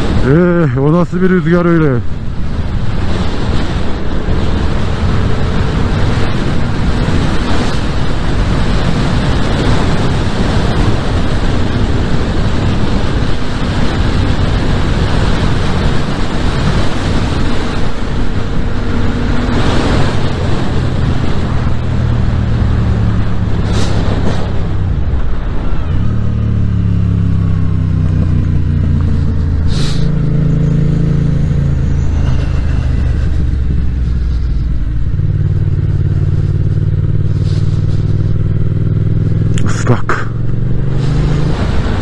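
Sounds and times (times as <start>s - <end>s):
car passing: 0.0s - 42.0s
heavy wind noise on microphone: 0.0s - 42.0s
motorcycle engine running: 2.0s - 42.0s.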